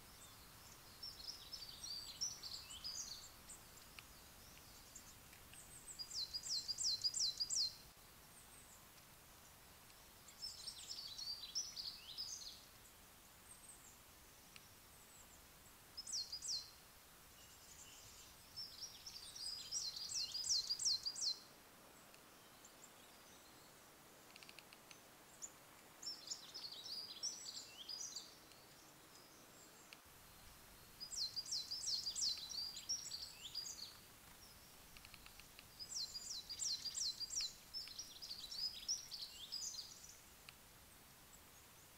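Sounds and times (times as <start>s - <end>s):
faint background hiss: 0.0s - 41.9s
songbirds singing: 0.0s - 41.9s.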